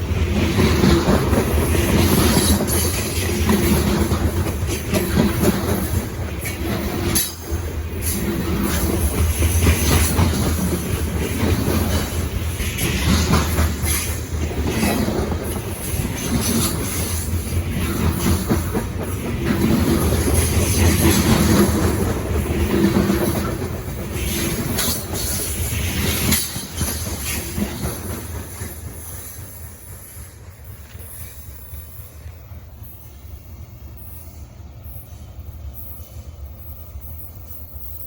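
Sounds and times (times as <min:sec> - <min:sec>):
wheels clicking over rail joints: 0:00.0 - 0:32.8
freight train rumbling past: 0:00.0 - 0:38.0.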